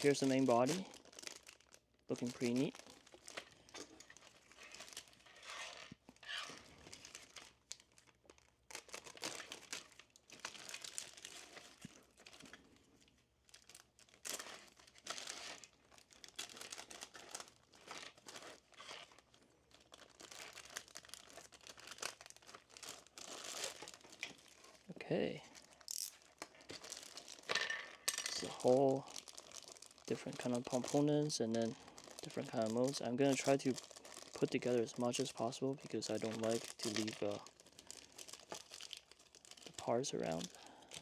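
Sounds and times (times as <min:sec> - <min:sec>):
plastic packaging crinkling and tearing: 0:00.0 - 0:41.0.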